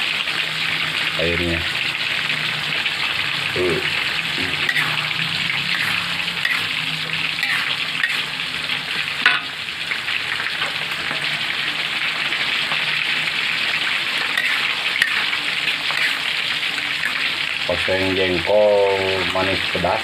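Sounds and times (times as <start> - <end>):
food sizzling in a wok: 0.0 - 20.0.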